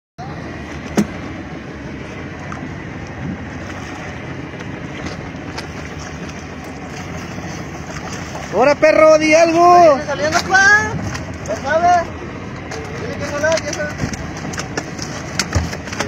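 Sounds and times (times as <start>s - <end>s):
boat engine and water rushing: 0.2s - 16.0s.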